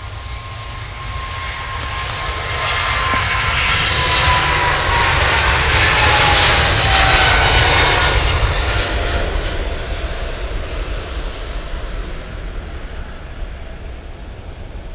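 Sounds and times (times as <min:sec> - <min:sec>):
jet engines at takeoff: 0:00.0 - 0:14.9.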